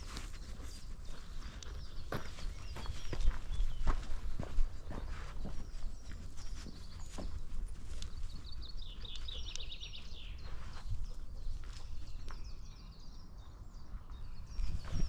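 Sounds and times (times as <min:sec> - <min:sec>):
birds singing: 0:00.0 - 0:15.0.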